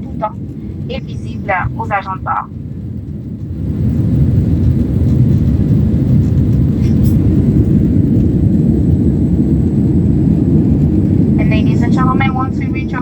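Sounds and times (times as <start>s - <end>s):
airplane engines and airflow rumble: 0.0s - 13.0s.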